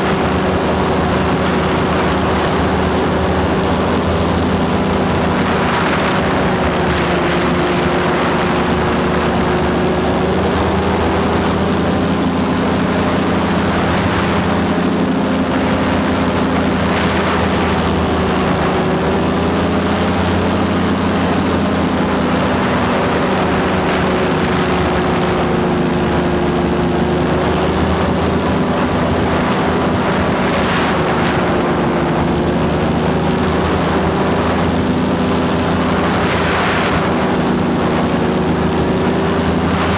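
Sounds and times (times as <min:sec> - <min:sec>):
propeller engine running: 0:00.0 - 0:39.9
wind rushing over microphone: 0:00.0 - 0:39.9.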